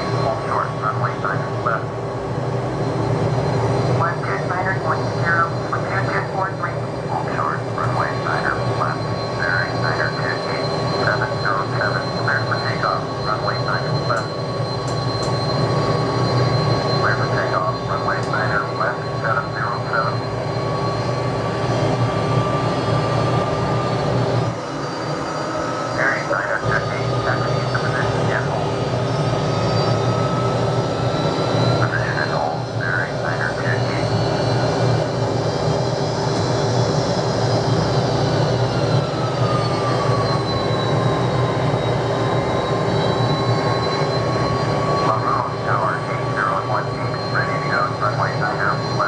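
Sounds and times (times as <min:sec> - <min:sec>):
jet engine whine: 0:00.0 - 0:49.0
jet engines rumbling: 0:00.0 - 0:49.0.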